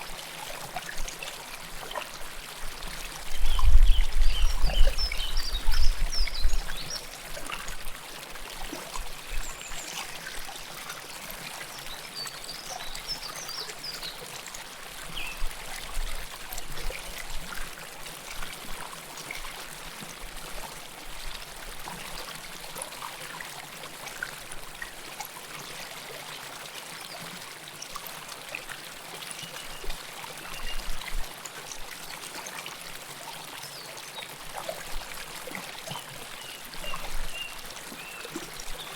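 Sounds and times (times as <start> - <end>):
river water rushing and babbling: 0.0 - 38.9.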